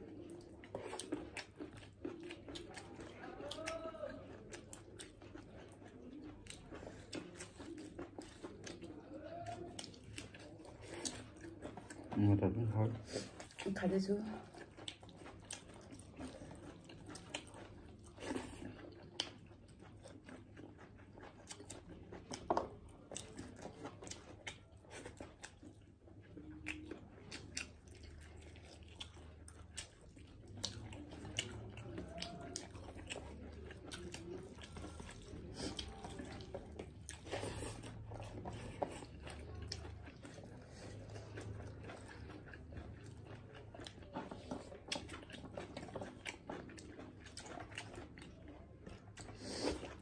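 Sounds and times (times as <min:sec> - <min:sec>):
people chewing food: 0:00.0 - 0:50.0.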